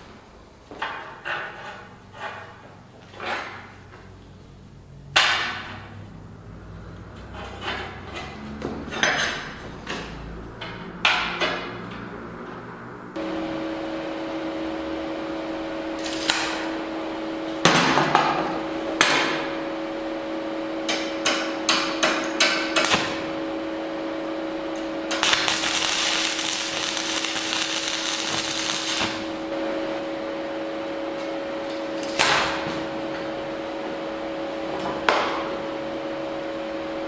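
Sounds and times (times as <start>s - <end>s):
two-tone machine hum: 2.2s - 37.0s.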